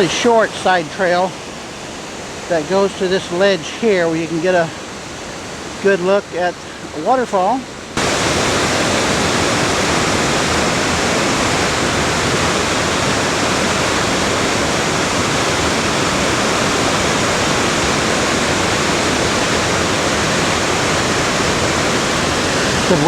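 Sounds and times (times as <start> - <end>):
water rushing through rocky gorge: 0.0 - 23.0.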